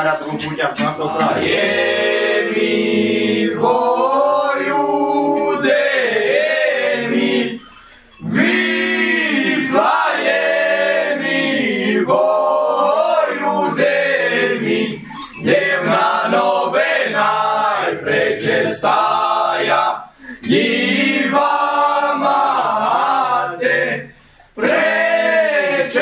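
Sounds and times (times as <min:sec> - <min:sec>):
men singing a carol unaccompanied: 0:00.0 - 0:26.0.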